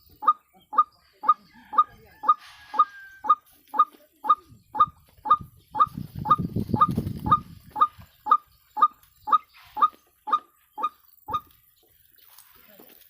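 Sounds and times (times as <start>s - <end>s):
bird calling short sharp notes: 0.0s - 11.6s.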